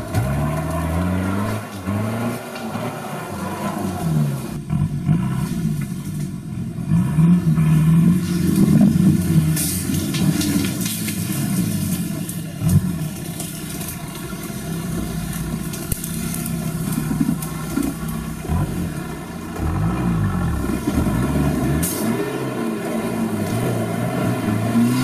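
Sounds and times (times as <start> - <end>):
engine running and revving: 0.0 - 25.0.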